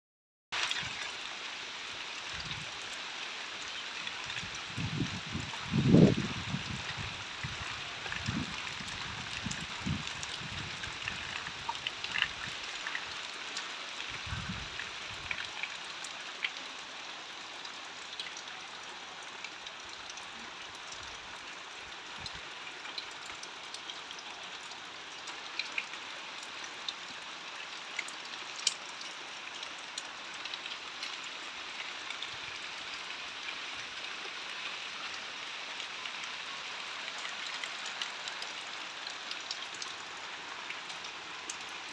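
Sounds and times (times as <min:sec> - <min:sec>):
raindrops ticking on surfaces: 0:00.6 - 0:41.9
steady rain falling: 0:00.6 - 0:41.9.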